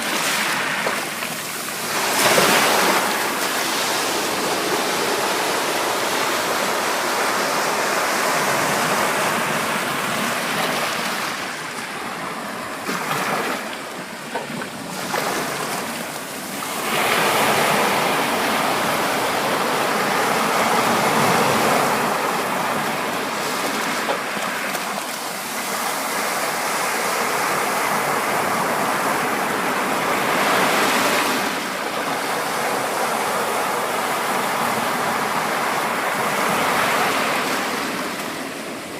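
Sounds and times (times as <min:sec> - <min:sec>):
ocean surf: 0:00.0 - 0:38.9.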